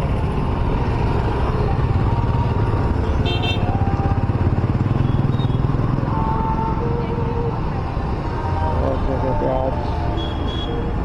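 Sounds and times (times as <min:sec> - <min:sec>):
motorcycles running: 0:00.0 - 0:11.0
road traffic rumble: 0:00.0 - 0:11.0.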